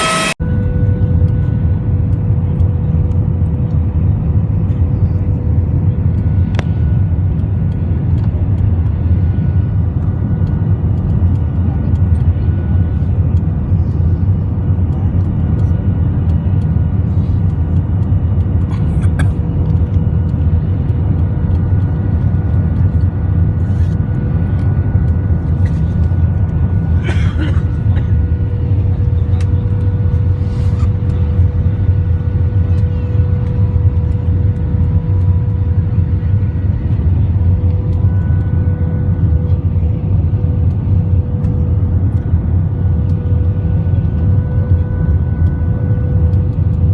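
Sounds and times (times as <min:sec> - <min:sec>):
jet engine low drone: 0:00.0 - 0:46.9.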